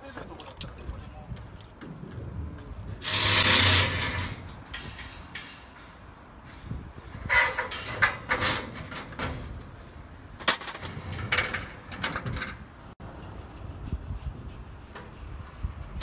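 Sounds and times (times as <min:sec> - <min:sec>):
metal rails scraping and clanking: 0:03.0 - 0:16.0.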